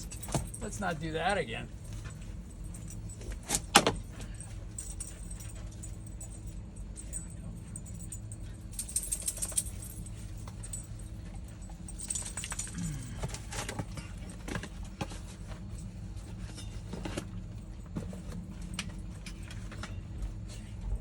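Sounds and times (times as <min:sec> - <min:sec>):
light metallic jingling: 0:00.0 - 0:21.0
steady low hum: 0:00.0 - 0:21.0.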